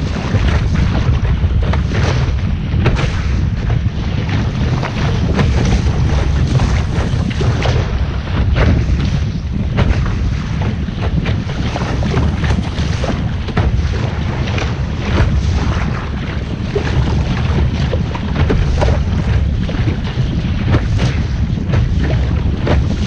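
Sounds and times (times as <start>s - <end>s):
water splashing against hull: 0.0s - 23.0s
wind buffeting microphone: 0.0s - 23.0s.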